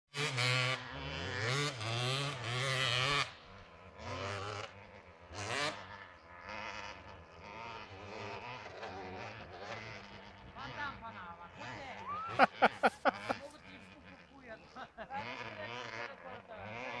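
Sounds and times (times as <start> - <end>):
dirt bike engine revving: 0.1 - 17.0.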